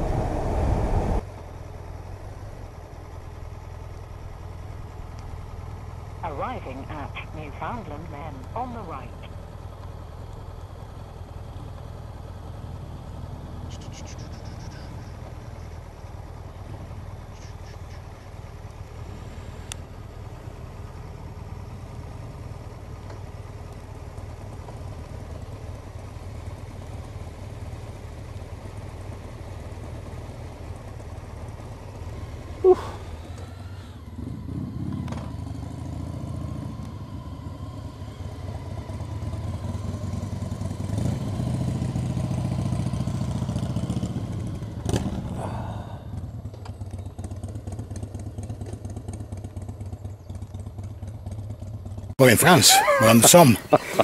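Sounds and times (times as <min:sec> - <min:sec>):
motorcycle engine hum: 0:00.0 - 0:52.2
wind and road noise: 0:00.0 - 0:54.0.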